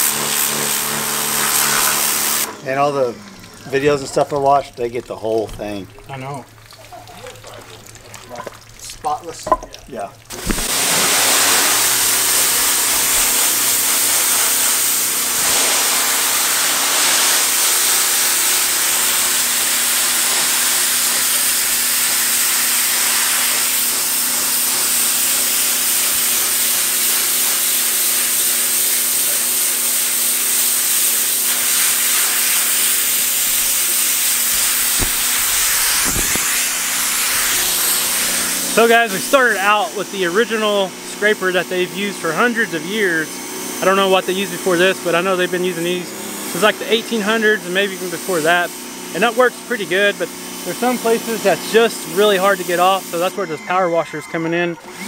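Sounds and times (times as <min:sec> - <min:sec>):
pressure washer water jet: 0:00.0 - 0:55.0.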